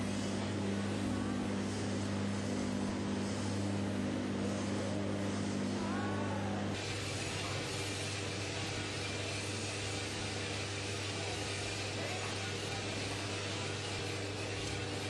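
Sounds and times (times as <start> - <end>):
coffee roaster rushing noise: 0.0 - 15.0.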